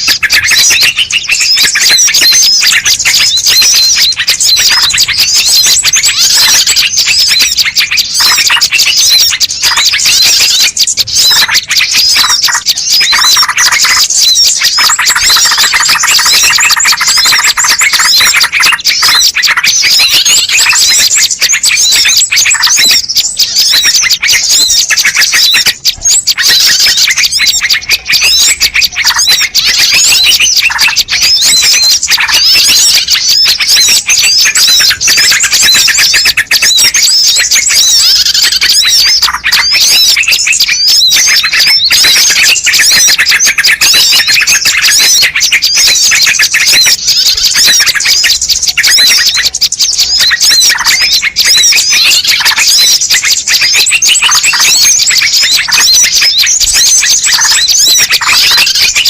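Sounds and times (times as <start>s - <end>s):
small birds chirping and twittering: 0.0s - 59.0s.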